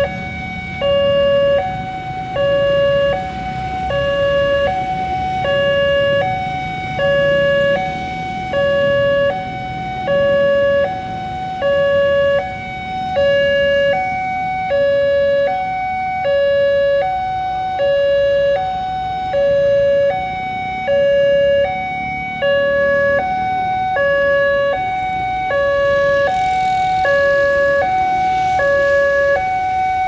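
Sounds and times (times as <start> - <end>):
level crossing two-tone alarm: 0.0 - 30.0.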